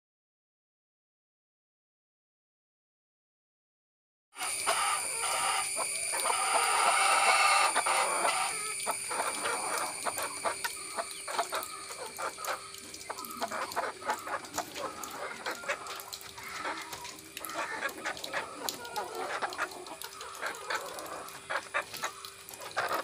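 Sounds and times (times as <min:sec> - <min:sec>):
chickens clucking: 0:04.4 - 0:23.0.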